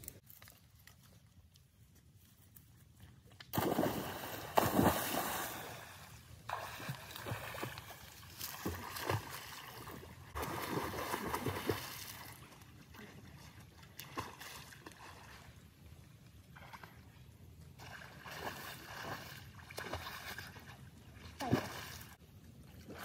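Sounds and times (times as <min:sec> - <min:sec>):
water splashing and sloshing: 0:03.2 - 0:23.0.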